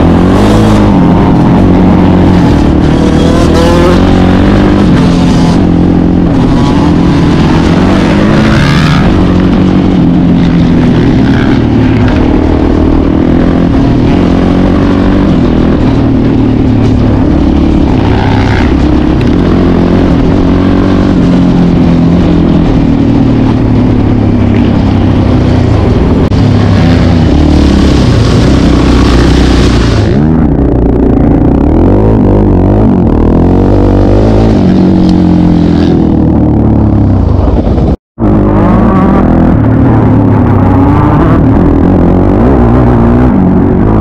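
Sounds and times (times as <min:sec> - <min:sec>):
quad bike engine revving: 0:00.0 - 0:44.0.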